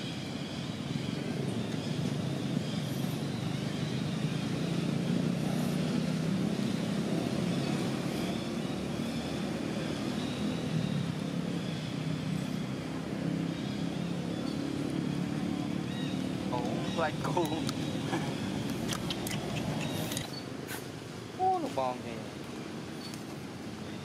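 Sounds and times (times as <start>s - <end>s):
motor traffic rumble: 0.0s - 24.0s.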